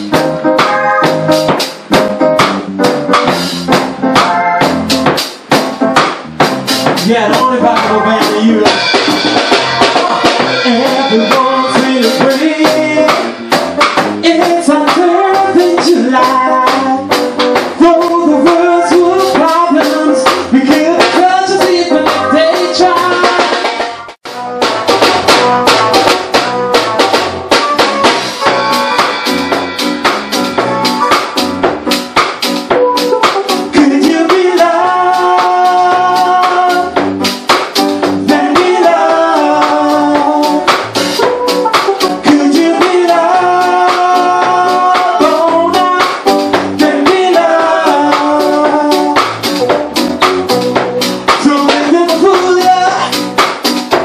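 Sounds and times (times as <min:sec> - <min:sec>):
drum kit: 0:00.0 - 0:54.0
electric bass guitar: 0:00.0 - 0:54.0
keyboard: 0:00.0 - 0:54.0.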